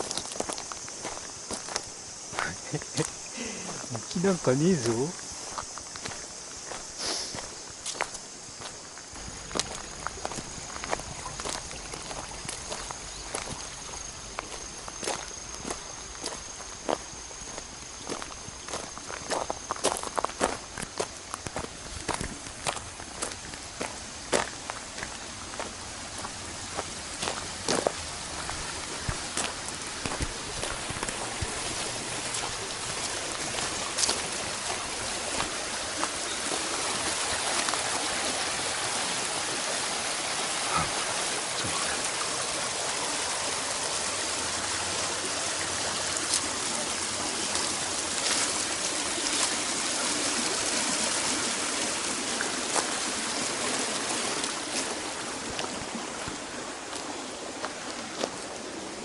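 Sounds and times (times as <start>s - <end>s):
stream running water: 0.0s - 59.0s.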